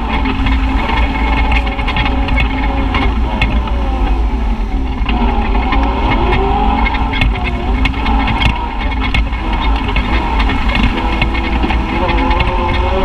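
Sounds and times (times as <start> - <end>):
sharp knocks and rattles: 0.0 - 13.0
utility vehicle engine revving: 0.0 - 13.0.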